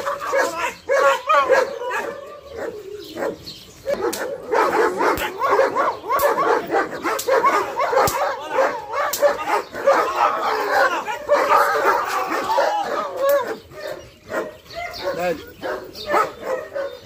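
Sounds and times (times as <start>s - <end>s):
dog barking and yipping: 0.0s - 17.0s.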